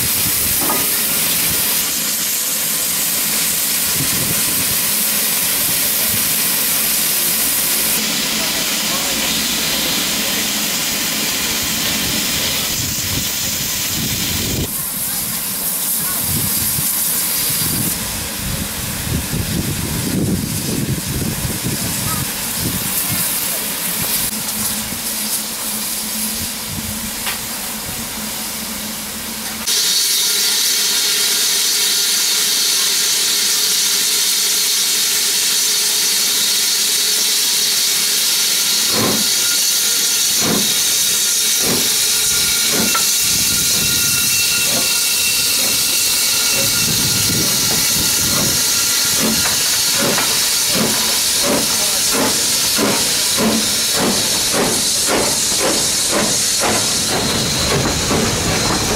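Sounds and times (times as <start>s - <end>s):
steam hissing from cylinders: 0.0s - 58.9s
steam locomotive exhaust beats: 0.0s - 58.9s.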